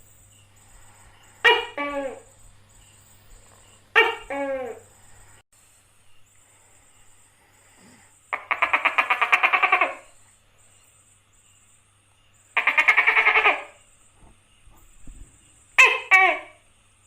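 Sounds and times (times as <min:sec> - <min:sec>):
gecko rattling call: 0:00.0 - 0:05.4, 0:06.2 - 0:16.7.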